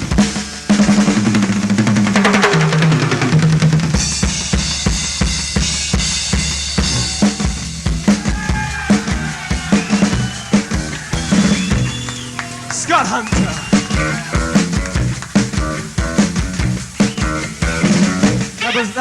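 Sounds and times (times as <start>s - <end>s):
drum kit playing: 0.0s - 19.0s.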